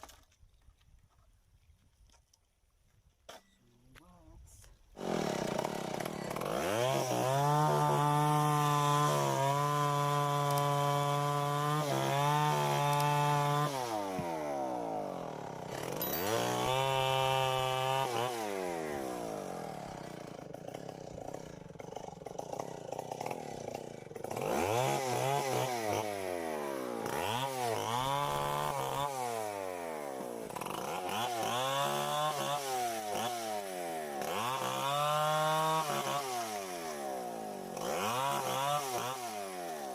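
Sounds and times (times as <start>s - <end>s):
chainsaw cutting wood: 4.9s - 39.9s.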